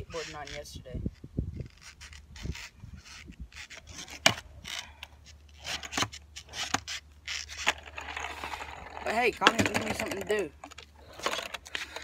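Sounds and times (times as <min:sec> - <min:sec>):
skateboard scraping on asphalt: 0:00.0 - 0:12.0.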